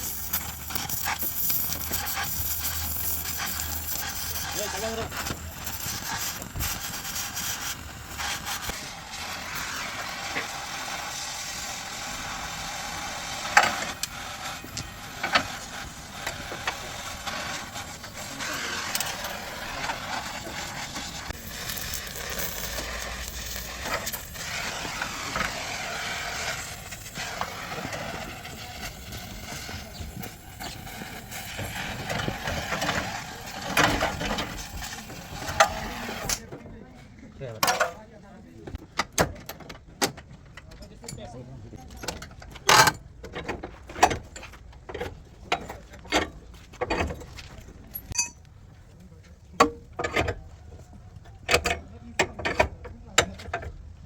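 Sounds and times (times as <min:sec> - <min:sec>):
noisy workshop background: 0:00.0 - 0:54.0.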